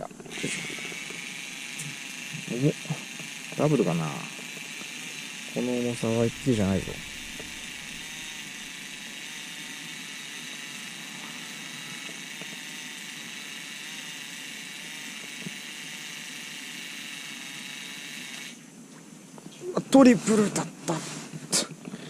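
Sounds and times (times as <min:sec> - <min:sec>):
electric fishing reel whirring: 0:00.0 - 0:18.7.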